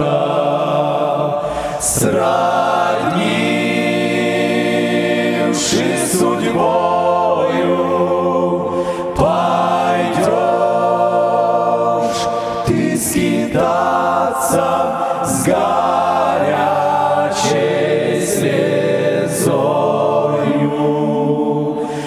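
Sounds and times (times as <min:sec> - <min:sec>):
male choir singing a hymn: 0:00.0 - 0:22.0.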